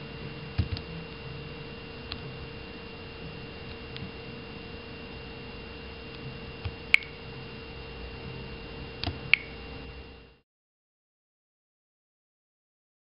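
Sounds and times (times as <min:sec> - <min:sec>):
steady hum: 0:00.0 - 0:10.4.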